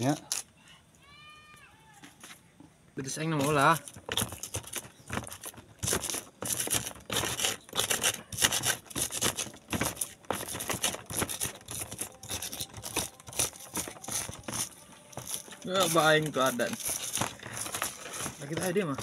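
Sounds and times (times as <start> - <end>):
pestle grinding in mortar: 3.3 - 19.0.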